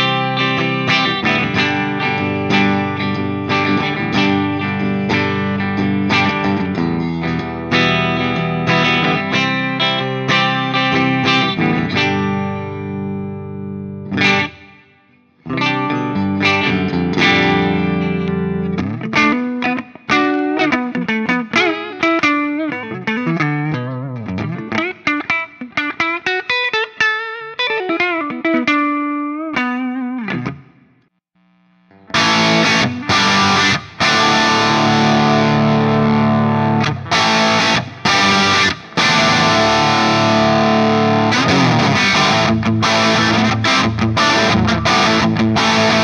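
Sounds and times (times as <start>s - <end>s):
distorted electric guitar crunch: 0.0s - 25.0s, 30.3s - 46.0s
clean electric guitar lines: 0.0s - 31.0s, 31.8s - 46.0s.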